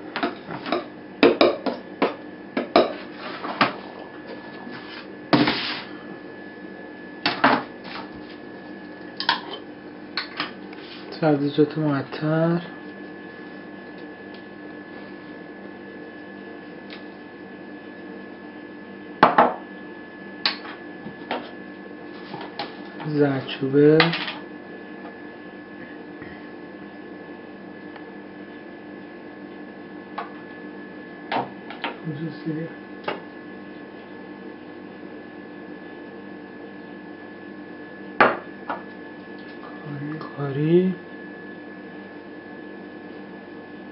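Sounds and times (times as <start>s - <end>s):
background hum with high tone: 0.0s - 43.9s.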